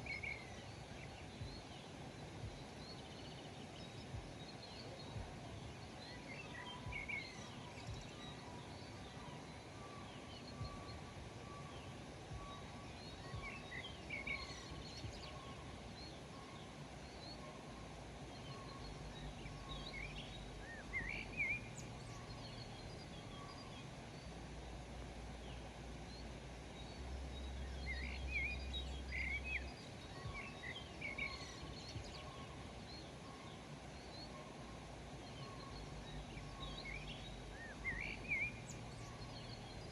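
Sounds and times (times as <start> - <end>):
faint thin steady tone: 0.0 - 39.9
small birds chirping: 0.0 - 39.9
steady outdoor hiss: 0.0 - 39.9.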